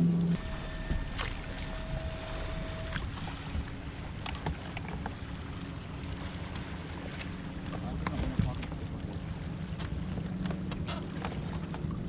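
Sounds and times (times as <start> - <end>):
faint steady hum: 0.0 - 12.0
wind and water rumble: 0.0 - 12.0.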